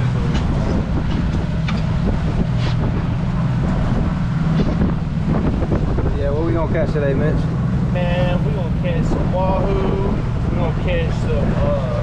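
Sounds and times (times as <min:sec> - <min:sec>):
motorboat engine humming: 0:00.0 - 0:12.0
wind buffeting microphone: 0:00.0 - 0:12.0.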